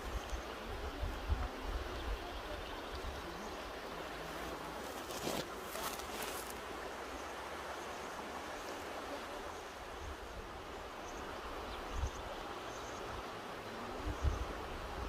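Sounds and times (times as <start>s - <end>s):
mountain river rushing: 0.0s - 15.0s.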